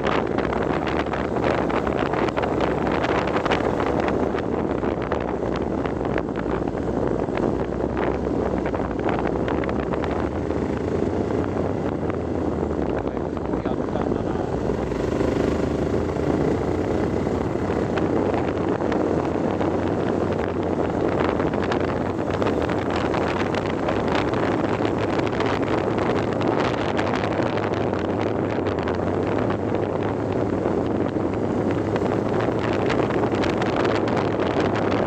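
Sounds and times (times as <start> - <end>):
vehicle engine drone: 0.0 - 35.0.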